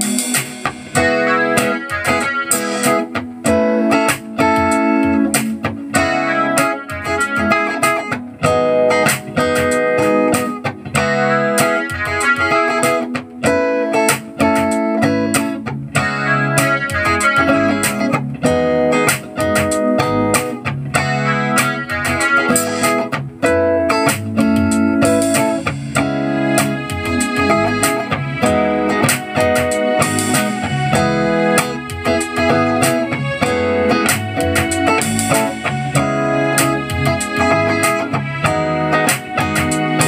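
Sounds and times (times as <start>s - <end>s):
backing music with beat and bass: 0.0s - 40.0s
electric guitar melody: 0.0s - 40.0s.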